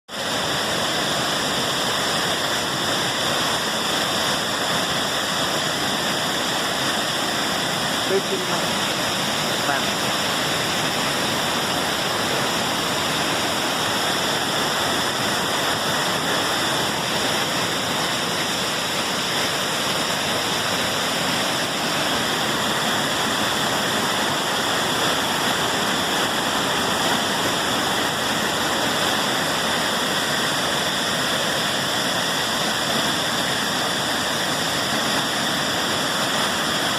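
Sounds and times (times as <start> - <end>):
waterfall pouring: 0.1 - 36.9.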